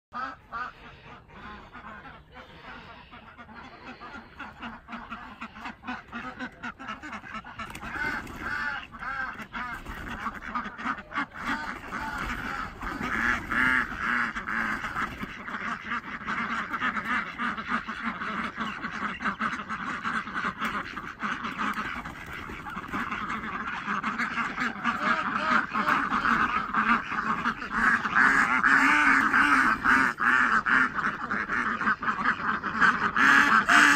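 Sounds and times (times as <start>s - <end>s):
ducks quacking: 0.1s - 33.9s.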